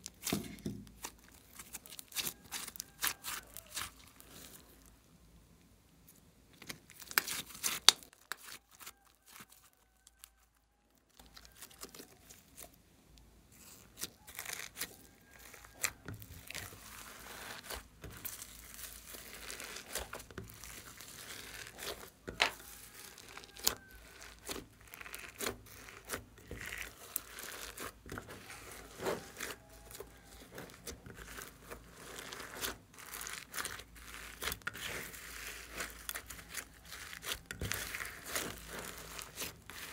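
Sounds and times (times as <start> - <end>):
slime crackling and clicking: 1.0 - 4.4, 11.2 - 39.9.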